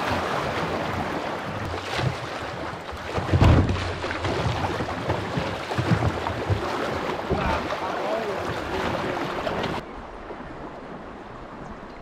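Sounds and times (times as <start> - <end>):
river water rushing and splashing: 0.0 - 12.0.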